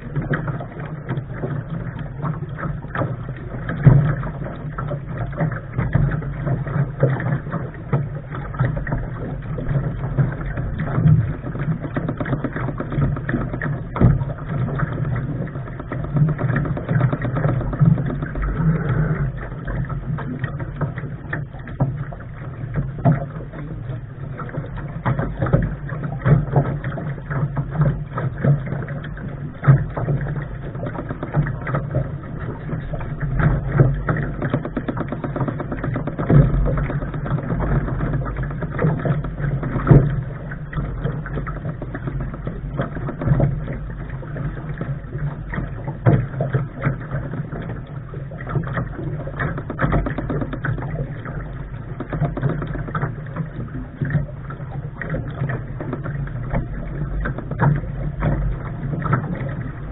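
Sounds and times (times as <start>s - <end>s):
knocks on boat: 0.0s - 59.9s
wind and water rushing: 0.0s - 59.9s.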